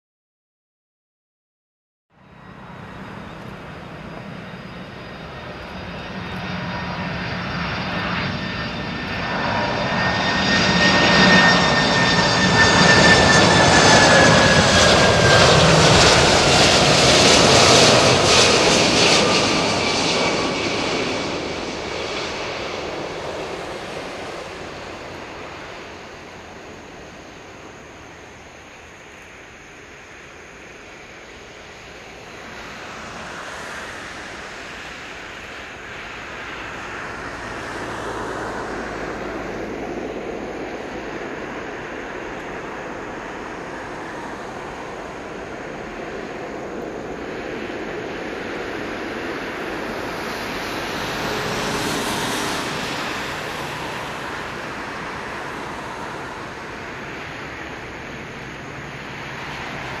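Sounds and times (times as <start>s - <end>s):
jet engines rushing: 2.2s - 60.0s.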